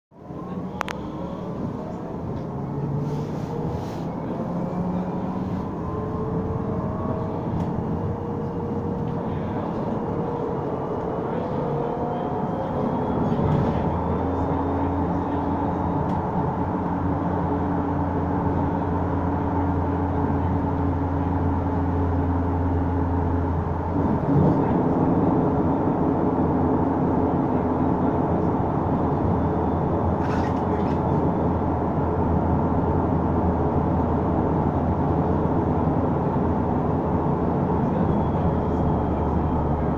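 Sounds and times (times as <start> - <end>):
road noise: 0.1 - 39.9
bus drivetrain whine: 0.2 - 39.9.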